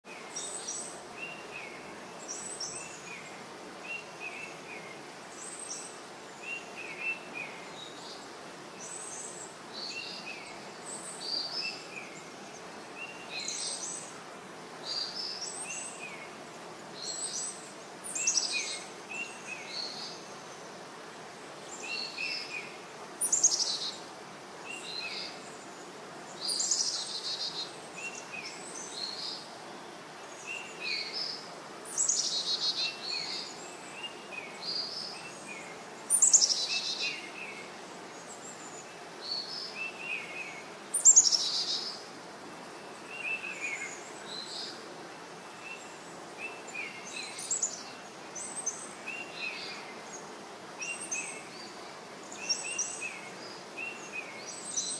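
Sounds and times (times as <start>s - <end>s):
small birds chirping: 0.0s - 54.9s
steady hiss: 0.1s - 54.9s.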